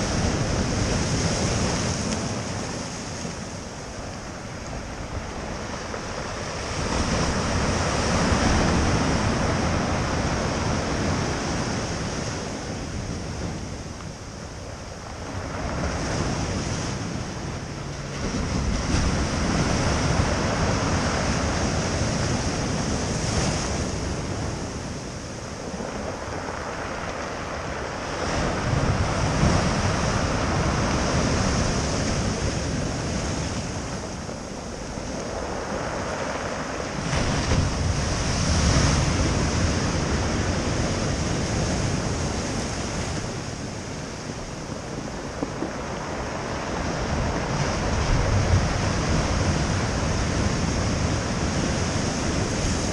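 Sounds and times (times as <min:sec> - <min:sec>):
surf waves breaking: 0:00.0 - 0:52.9
wind buffeting microphone: 0:00.0 - 0:52.9.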